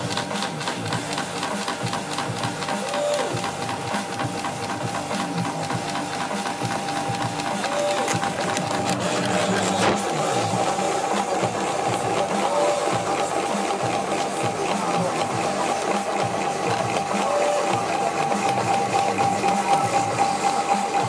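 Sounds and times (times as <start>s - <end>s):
bit grinding: 0.0s - 21.0s.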